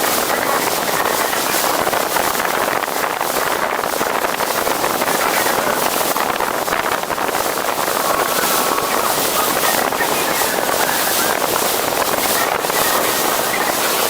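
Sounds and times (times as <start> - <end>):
motorboat engine and rushing water: 0.0 - 14.0
wind buffeting microphone: 0.0 - 14.0.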